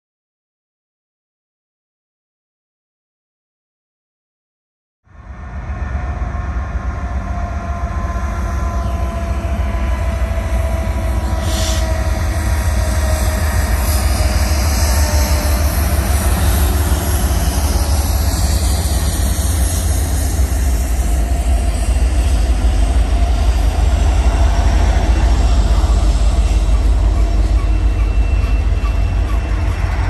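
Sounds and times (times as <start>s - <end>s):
diesel locomotive engines running: 5.1s - 30.0s.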